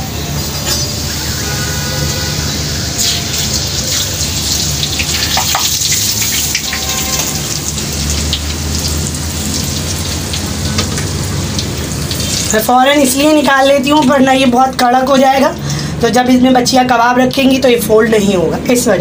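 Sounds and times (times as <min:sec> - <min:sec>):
dough deep-frying in oil: 0:00.0 - 0:19.0.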